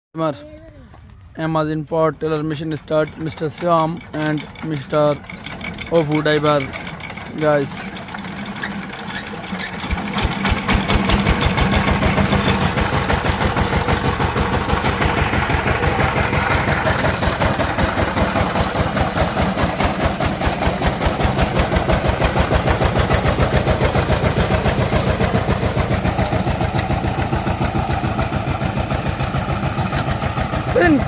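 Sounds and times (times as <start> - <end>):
diesel engine chugging: 0.2 - 31.0.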